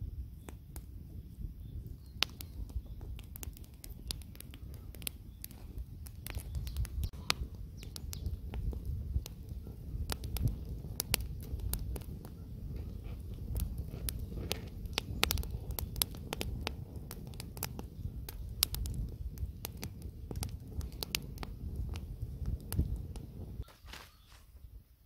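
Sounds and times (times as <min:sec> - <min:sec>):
campfire crackling and popping: 0:00.0 - 0:23.7.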